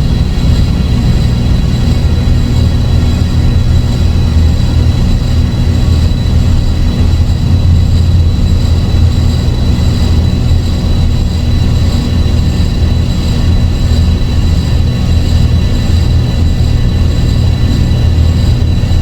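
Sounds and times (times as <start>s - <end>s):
dark ambient drone music: 0.0s - 19.0s.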